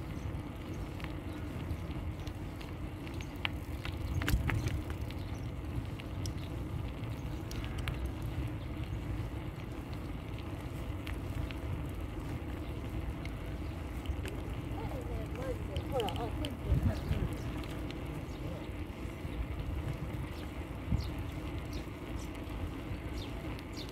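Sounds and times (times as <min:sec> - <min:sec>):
bicycle tyres rumbling: 0:00.0 - 0:23.9
wind: 0:00.0 - 0:23.9
small clicks and rattles: 0:00.1 - 0:23.9.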